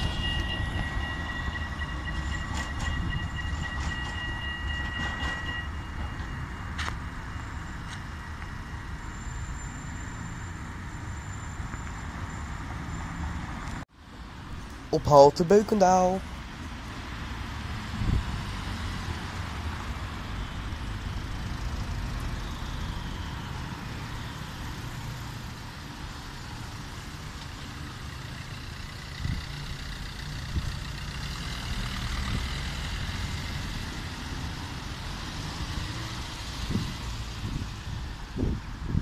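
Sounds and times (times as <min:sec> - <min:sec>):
passing street traffic: 0:00.0 - 0:39.0
tram rumble and hiss: 0:00.0 - 0:39.0.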